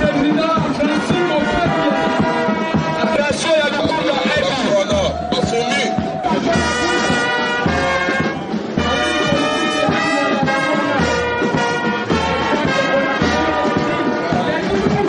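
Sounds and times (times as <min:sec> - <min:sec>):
brass music with low beat: 0:00.0 - 0:15.0.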